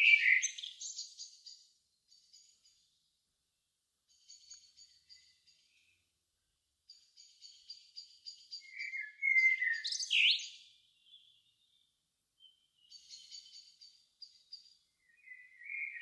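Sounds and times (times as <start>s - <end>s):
bird song with slurred notes: 0.0s - 3.1s, 4.1s - 6.1s, 6.8s - 16.0s.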